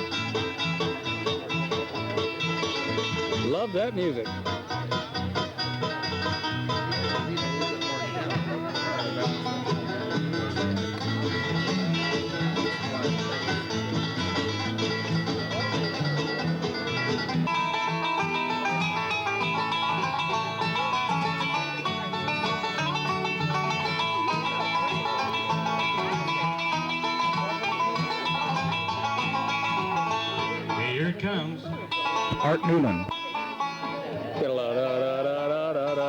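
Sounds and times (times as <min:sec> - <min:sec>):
banjo: 0:00.0 - 0:36.0
bluegrass string band: 0:00.0 - 0:36.0
guitar: 0:00.0 - 0:36.0.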